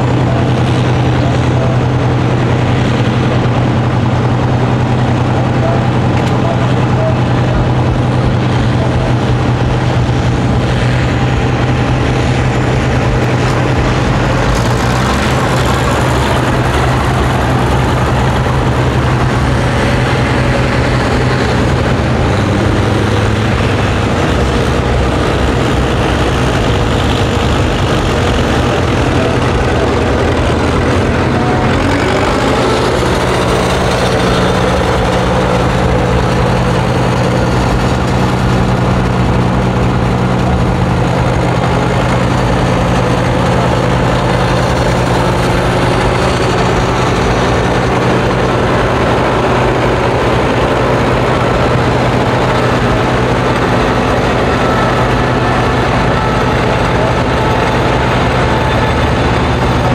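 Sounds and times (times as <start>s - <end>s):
road grader engine: 0.0s - 59.9s
tractor engine under load: 0.0s - 59.9s
tractors idling: 0.0s - 59.9s.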